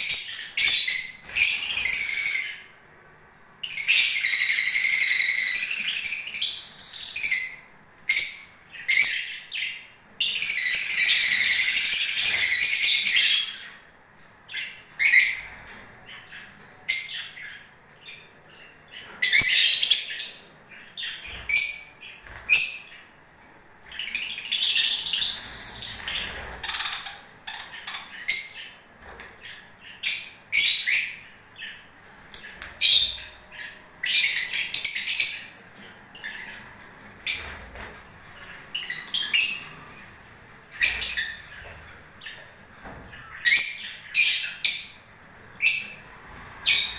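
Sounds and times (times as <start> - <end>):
lovebirds chirping and squawking: 0.0 - 46.9.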